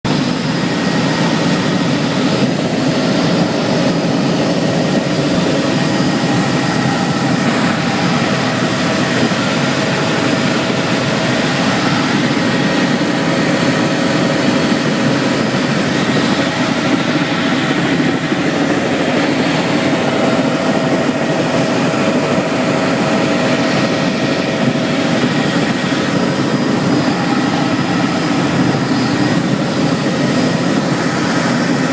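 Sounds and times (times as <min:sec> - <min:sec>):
drone propellers whirring: 0:00.1 - 0:31.9.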